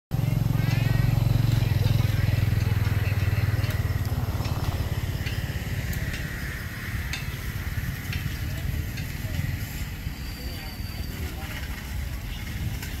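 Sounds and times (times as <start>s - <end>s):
small engine throbbing: 0.1s - 13.0s.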